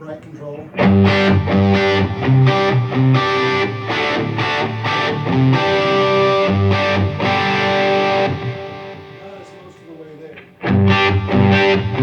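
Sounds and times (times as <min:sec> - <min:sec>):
overdriven electric guitar chords: 0:00.7 - 0:12.0.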